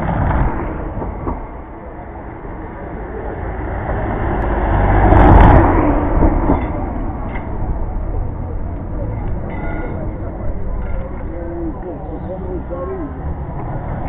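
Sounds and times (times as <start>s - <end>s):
van driving past: 0.0s - 14.0s.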